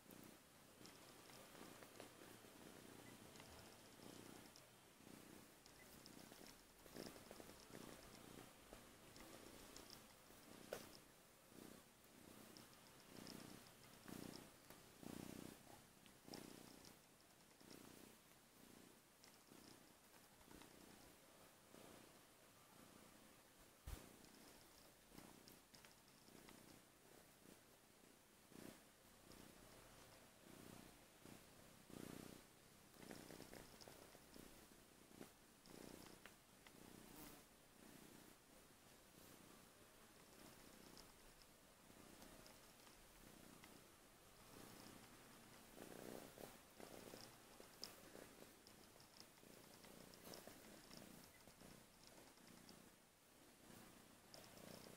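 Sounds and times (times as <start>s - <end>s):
kitten purring: 0.0s - 54.9s.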